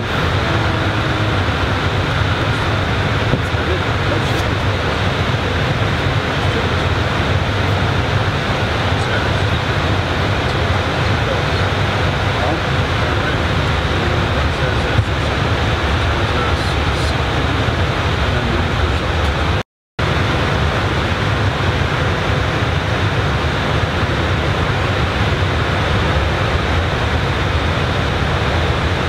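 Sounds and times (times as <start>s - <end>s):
aircraft airflow and engine noise: 0.0s - 29.0s.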